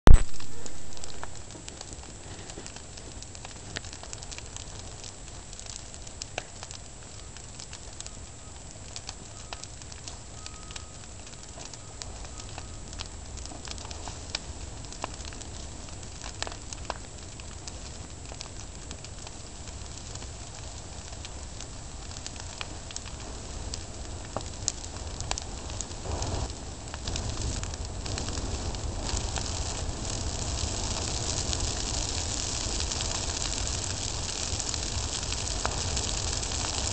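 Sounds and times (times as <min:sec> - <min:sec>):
brush fire crackling: 0:00.1 - 0:36.9
sharp pops of fire: 0:00.1 - 0:36.9.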